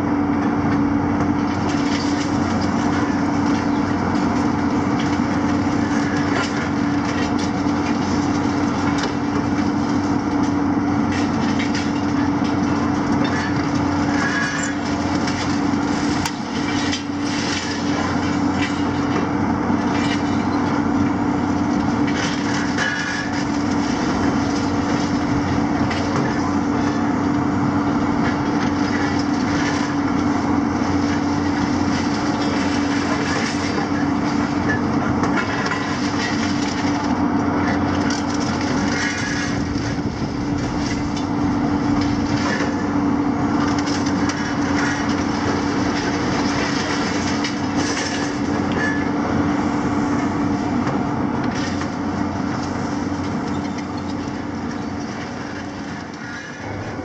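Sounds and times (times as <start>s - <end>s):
excavator engines and hydraulics: 0.0s - 57.0s
falling rubble clatter: 1.5s - 27.2s, 27.8s - 49.1s.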